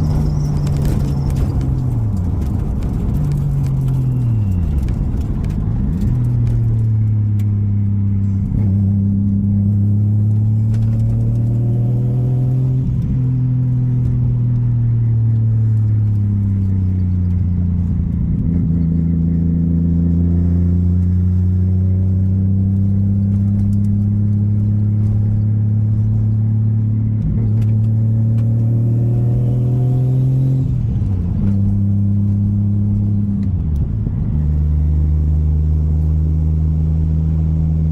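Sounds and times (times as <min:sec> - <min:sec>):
car engine running hard: 0:00.0 - 0:37.9.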